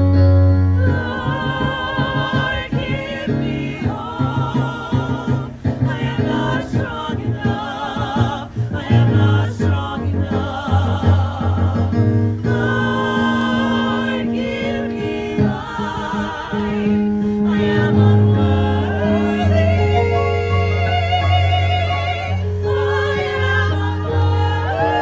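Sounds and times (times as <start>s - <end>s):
men and women singing in harmony: 0.6s - 25.0s.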